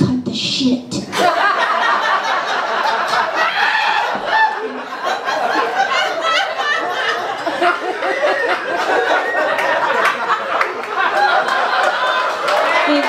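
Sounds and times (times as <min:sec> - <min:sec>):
audience laughing: 0:01.1 - 0:13.0.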